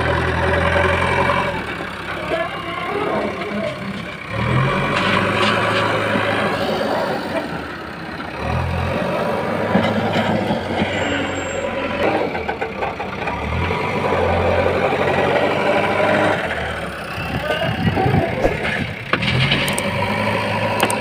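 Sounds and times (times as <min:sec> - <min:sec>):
diesel engine revving under load: 0:00.0 - 0:21.0.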